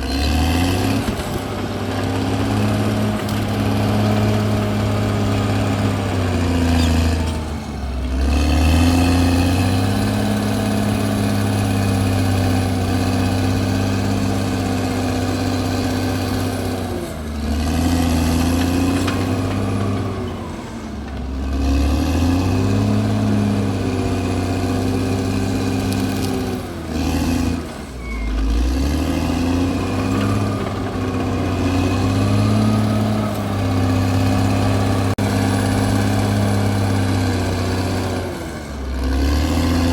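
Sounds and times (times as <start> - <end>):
bulldozer diesel engine lugging: 0.0 - 39.9.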